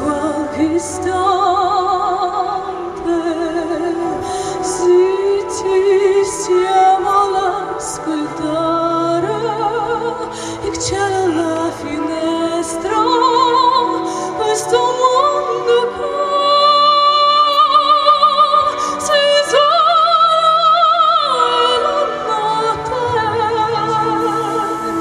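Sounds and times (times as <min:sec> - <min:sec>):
backing track: 0:00.0 - 0:25.0
woman singing with vibrato: 0:00.0 - 0:25.0.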